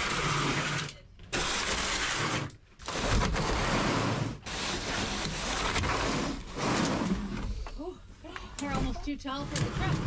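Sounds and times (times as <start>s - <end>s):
plastic trays scraping on plastic: 0.0s - 7.6s, 8.6s - 10.0s.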